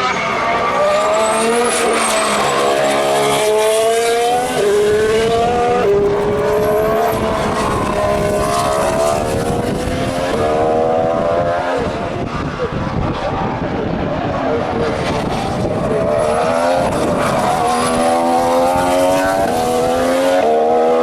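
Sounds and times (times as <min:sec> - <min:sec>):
racing car engine at high revs: 0:00.0 - 0:21.0.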